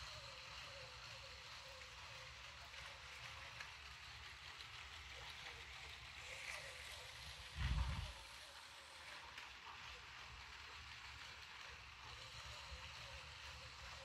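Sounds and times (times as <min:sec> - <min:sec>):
toy train whirring: 0:00.0 - 0:14.0
wheels rolling on plastic track: 0:00.0 - 0:14.0.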